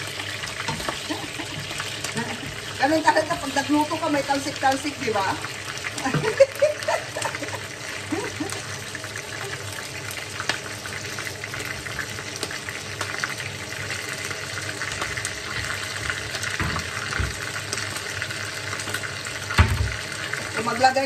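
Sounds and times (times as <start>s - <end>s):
chicken feet sizzling in hot oil: 0.0s - 21.0s.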